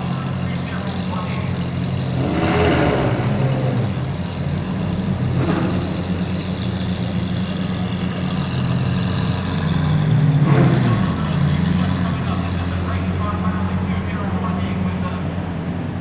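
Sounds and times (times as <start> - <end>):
car engines idling: 0.0 - 16.0.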